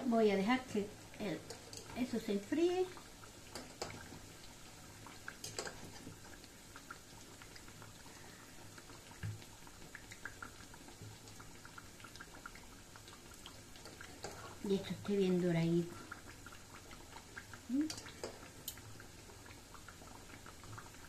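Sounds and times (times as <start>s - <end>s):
pastries sizzling in hot oil: 0.0s - 21.0s.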